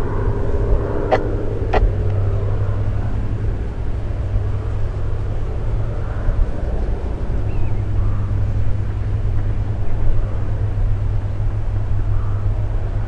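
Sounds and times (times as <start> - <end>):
distant plane engine hum: 0.0 - 13.0
loud low rumble: 0.0 - 13.0.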